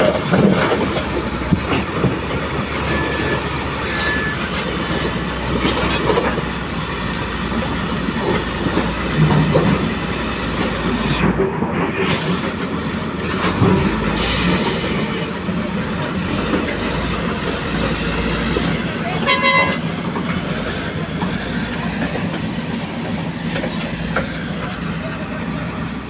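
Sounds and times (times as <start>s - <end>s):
construction machinery rumbling: 0.0s - 26.0s.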